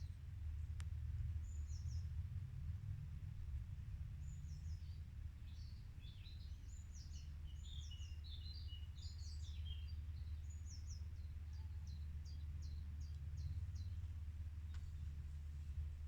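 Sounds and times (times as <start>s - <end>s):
songbirds chirping: 0.8s - 2.1s, 4.1s - 16.0s.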